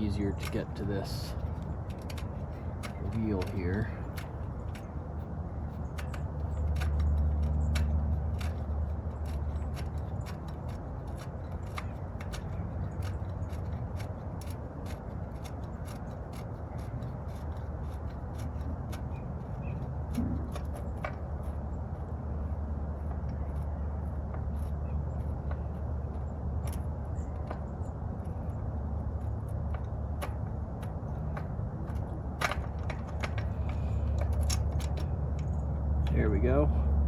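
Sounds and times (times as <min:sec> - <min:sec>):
low rumble of bike handled: 0:00.0 - 0:37.0
wrench metallic clicks and scrapes: 0:00.0 - 0:37.0.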